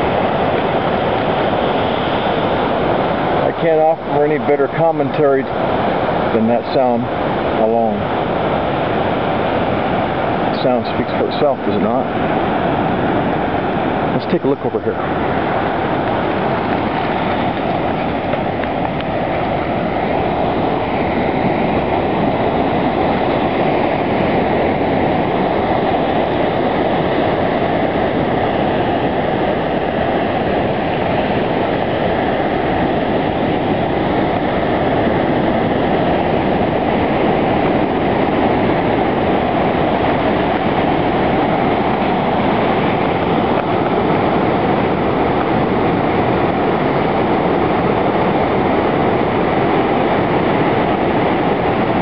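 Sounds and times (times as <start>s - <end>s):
waves crashing on rocks: 0.0s - 52.0s.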